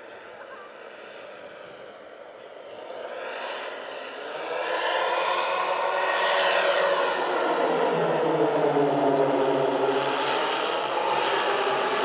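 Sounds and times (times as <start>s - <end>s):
model plane engines droning: 0.0s - 12.0s.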